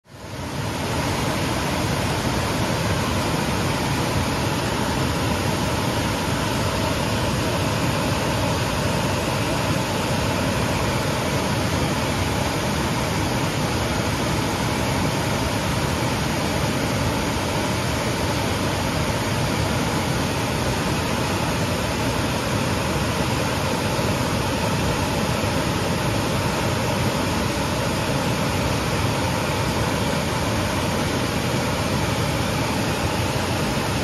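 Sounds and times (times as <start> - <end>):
waterfall rushing: 0.1 - 34.0.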